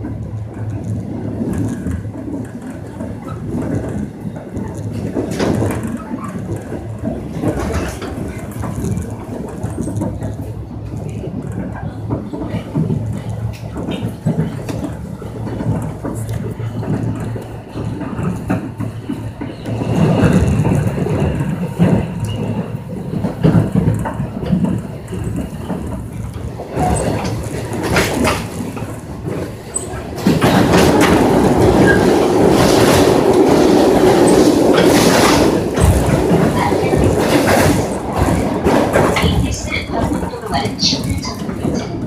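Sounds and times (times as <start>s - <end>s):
electric train rumbling on rails: 0.0s - 42.0s.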